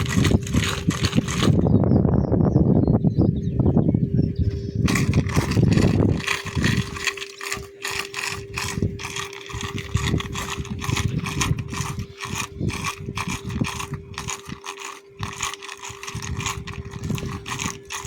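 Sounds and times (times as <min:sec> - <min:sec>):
fishing reel ratchet clicking: 0:00.0 - 0:01.6, 0:04.9 - 0:18.0
steady hum: 0:00.0 - 0:18.0.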